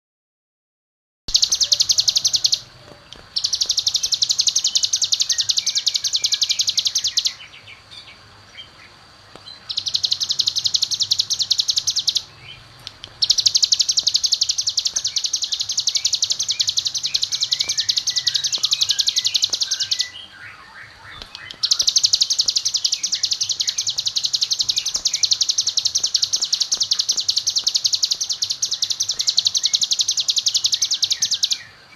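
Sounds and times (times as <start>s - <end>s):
bird high rapid trill: 1.3s - 8.9s, 9.5s - 31.9s
faint bird chirps: 1.3s - 31.9s.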